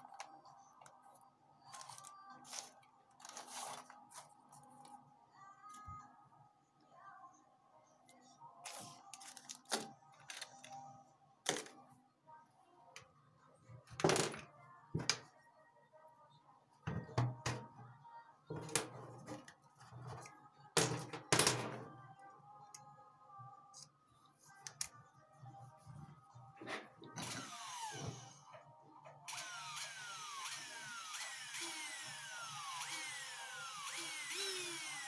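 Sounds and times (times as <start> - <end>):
faint background music: 0.0 - 35.0.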